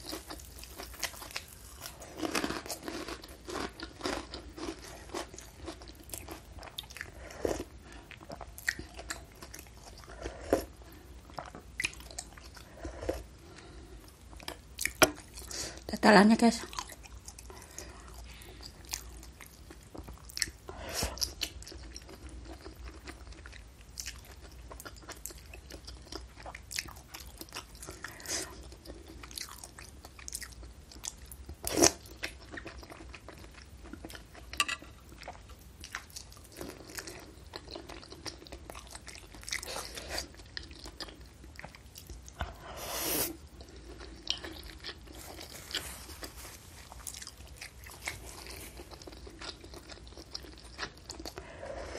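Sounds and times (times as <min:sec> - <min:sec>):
person chewing soup and noodles: 0:00.0 - 0:15.9, 0:16.6 - 0:51.9.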